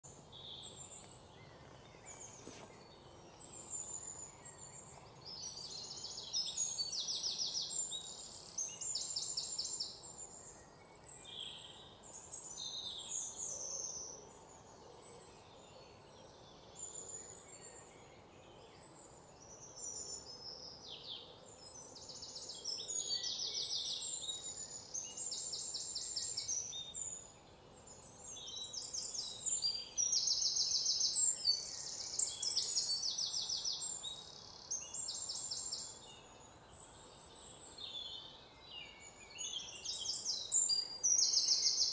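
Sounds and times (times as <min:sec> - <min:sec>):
faint background hiss: 0:00.0 - 0:41.9
birds chirping and trilling: 0:00.1 - 0:41.9.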